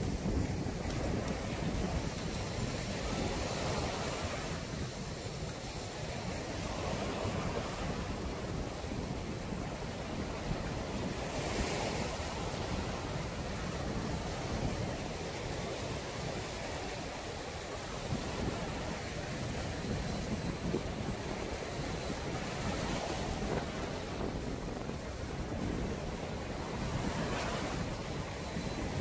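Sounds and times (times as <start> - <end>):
waves washing up a beach: 0.0 - 29.0
wind buffeting the microphone: 0.0 - 29.0.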